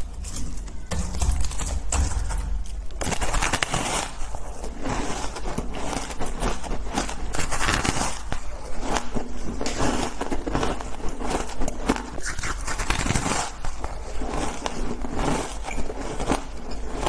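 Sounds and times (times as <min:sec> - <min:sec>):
ice being chewed and crunched: 0:00.0 - 0:02.0, 0:02.6 - 0:17.0.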